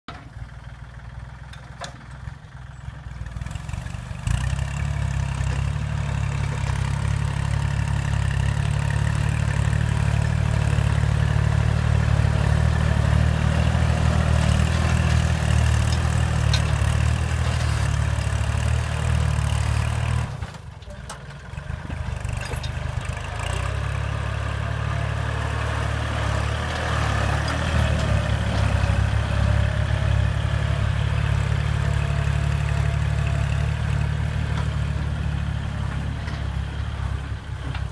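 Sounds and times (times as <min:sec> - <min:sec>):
tractor diesel engine running: 0:00.1 - 0:37.9.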